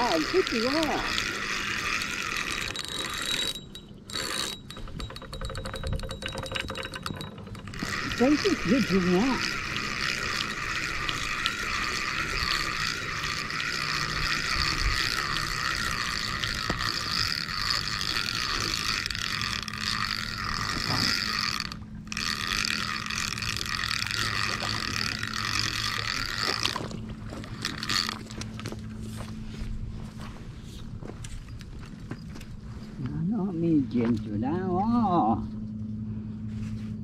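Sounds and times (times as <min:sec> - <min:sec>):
fishing reel gear whine: 0:00.0 - 0:33.0.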